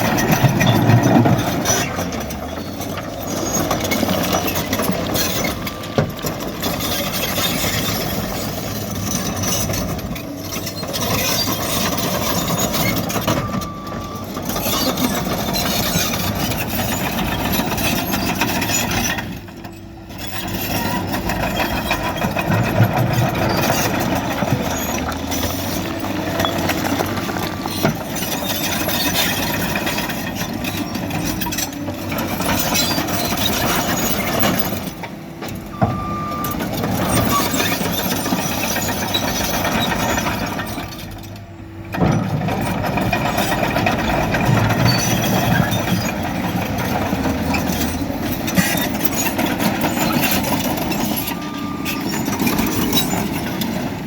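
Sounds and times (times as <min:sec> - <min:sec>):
diesel engine running: 0:00.0 - 0:54.0
tracks and bucket clattering scraping: 0:00.0 - 0:54.0.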